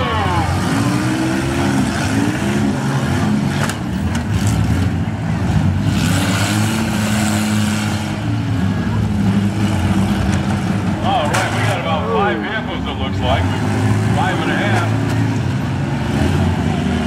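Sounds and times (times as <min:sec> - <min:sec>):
engines revving hard: 0:00.0 - 0:17.0.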